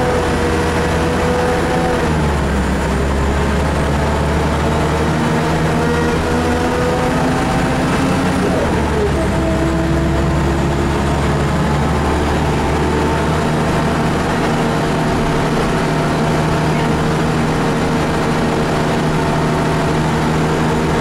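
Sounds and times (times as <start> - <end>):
bus diesel engine from inside: 0.0 - 21.0.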